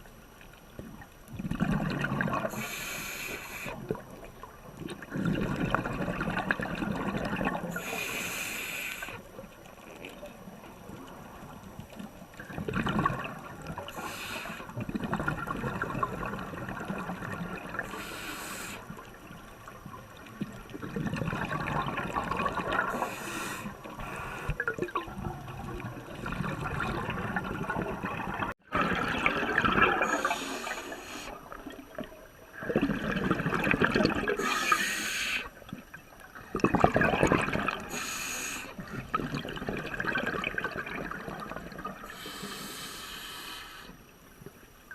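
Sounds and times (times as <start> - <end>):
underwater breathing bubbles: 1.3 - 44.1.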